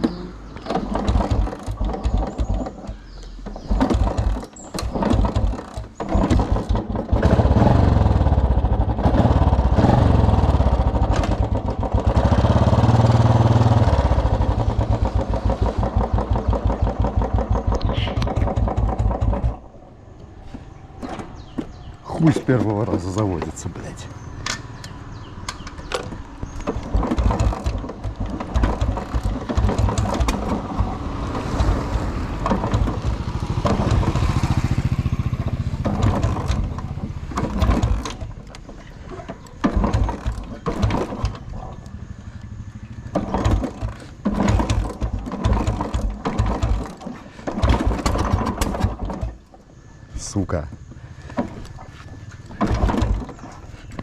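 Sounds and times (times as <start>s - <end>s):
motorcycle engine starting and dying: 0.0s - 54.0s.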